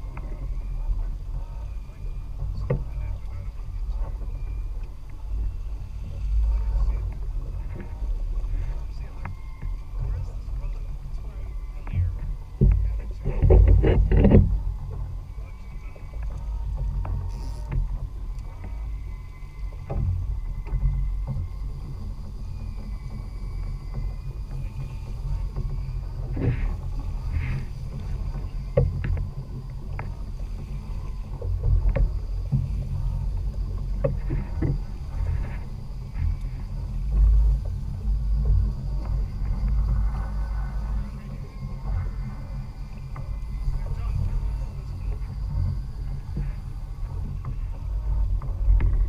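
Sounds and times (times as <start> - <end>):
boat motor rumble: 0.0 - 49.0.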